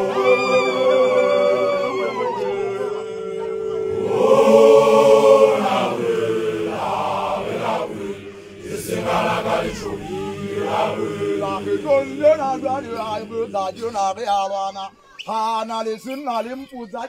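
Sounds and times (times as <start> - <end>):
voices chanting together: 0.0 - 15.1.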